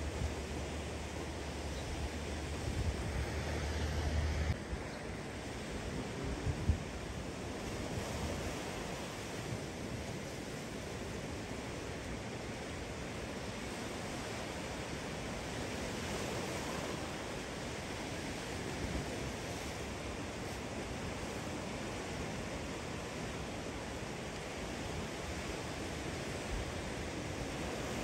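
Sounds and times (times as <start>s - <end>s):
surf washing onto a beach: 0.0s - 28.0s
wind: 0.0s - 28.0s.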